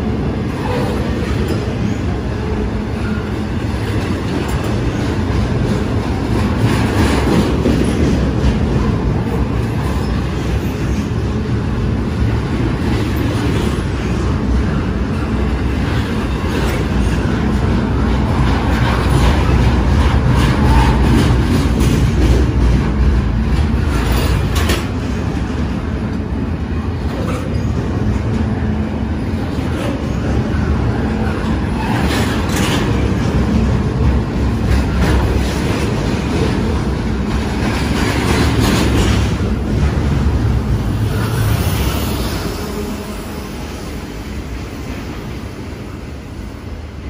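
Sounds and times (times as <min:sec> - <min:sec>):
freight train wheels rumbling on rails: 0:00.0 - 0:47.0.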